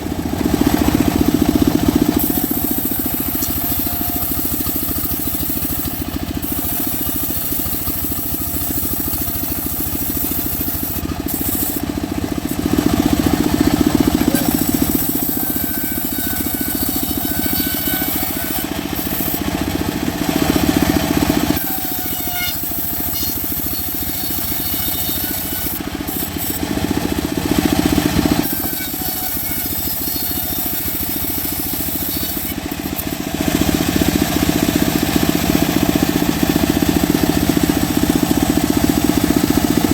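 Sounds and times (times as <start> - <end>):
saw rasping through wood: 0.0 - 39.9
sawmill engine hum: 0.0 - 39.9.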